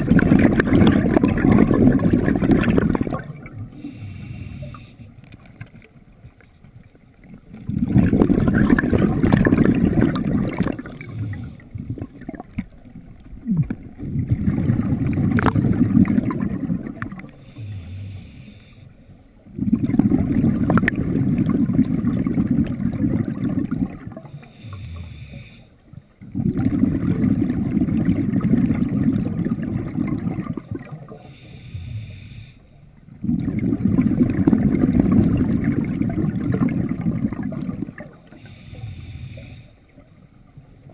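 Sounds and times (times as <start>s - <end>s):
underwater exhaled bubbles: 0.0s - 40.9s.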